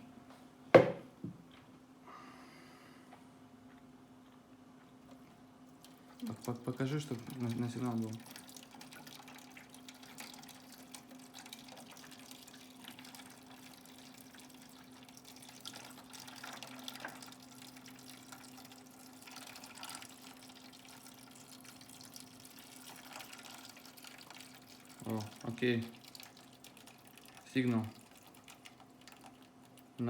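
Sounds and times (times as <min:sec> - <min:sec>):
low electrical hum: 0:00.0 - 0:30.0
water trickling and dripping: 0:05.8 - 0:30.0.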